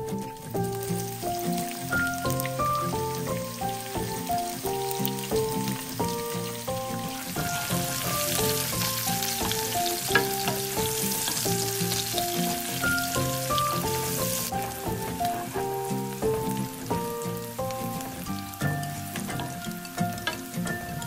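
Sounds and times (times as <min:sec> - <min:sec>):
light background music: 0:00.0 - 0:21.0
onion sizzling in a frying pan: 0:00.0 - 0:21.0.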